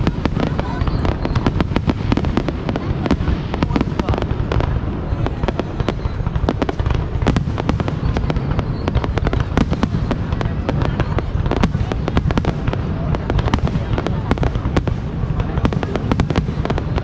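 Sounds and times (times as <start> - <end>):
fireworks bangs and cracks: 0.0 - 17.0
low rumble of fireworks: 0.0 - 17.0.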